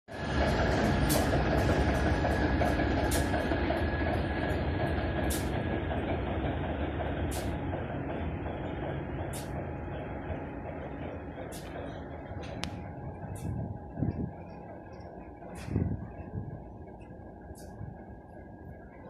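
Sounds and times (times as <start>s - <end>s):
diesel locomotive rumbling: 0.1s - 19.0s.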